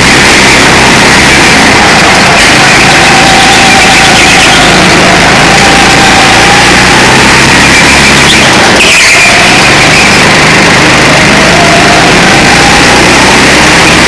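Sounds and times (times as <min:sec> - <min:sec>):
go-kart engine revving: 0:00.0 - 0:14.0.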